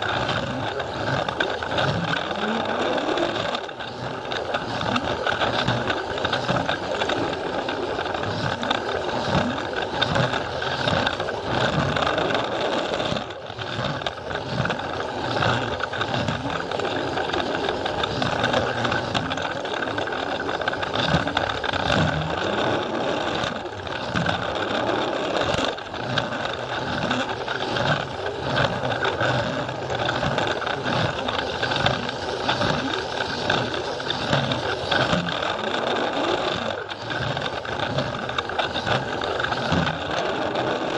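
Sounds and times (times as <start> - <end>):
toy train motor whirring: 0.0 - 40.9
wheels clicking on plastic track: 0.0 - 40.9.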